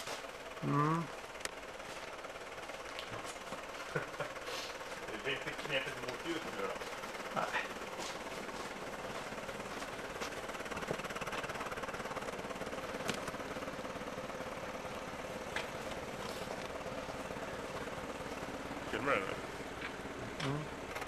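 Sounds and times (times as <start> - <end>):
forklift engine running: 0.0 - 21.0.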